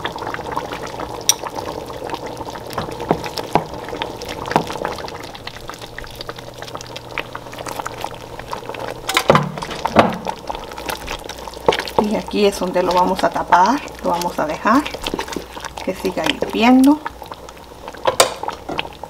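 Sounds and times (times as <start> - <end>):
sauce simmering and bubbling: 0.0 - 19.0.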